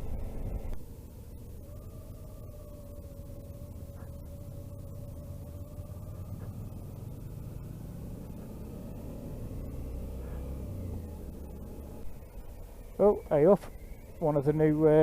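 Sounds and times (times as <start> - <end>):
motorcycle engine running: 0.0 - 15.0
road rumble: 0.0 - 15.0.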